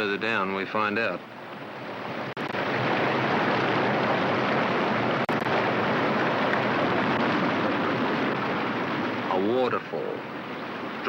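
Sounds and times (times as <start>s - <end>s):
waterfall rushing: 0.9s - 11.0s.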